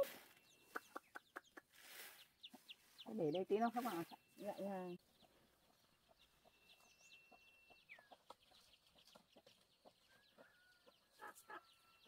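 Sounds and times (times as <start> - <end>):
chicken calls: 0.0 - 12.0
chickens clucking: 0.0 - 12.0.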